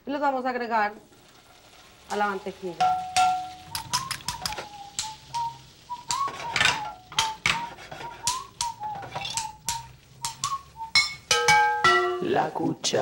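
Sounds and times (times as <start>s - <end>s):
gnocchi frying in butter: 0.0s - 13.0s.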